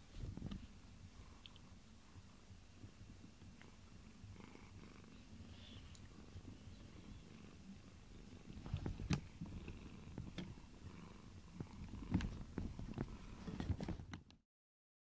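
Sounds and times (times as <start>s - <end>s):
cat purring: 0.1s - 14.0s.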